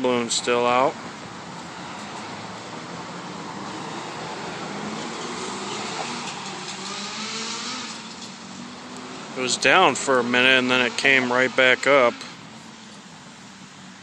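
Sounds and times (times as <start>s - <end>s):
car engine hum: 0.0s - 14.0s.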